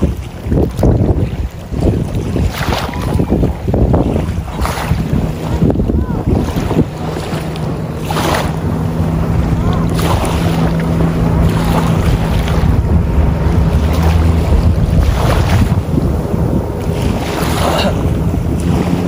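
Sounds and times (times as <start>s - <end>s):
motorboat engine humming: 0.0s - 19.0s
wind buffeting microphone: 0.0s - 19.0s.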